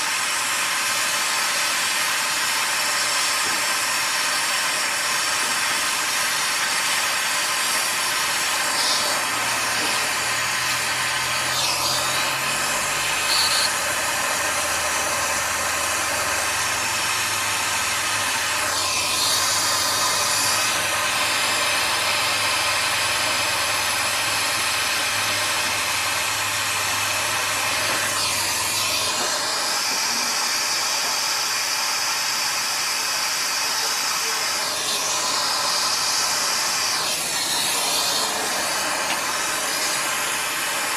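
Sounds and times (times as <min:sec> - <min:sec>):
brazing torch flame hissing: 0:00.0 - 0:40.9.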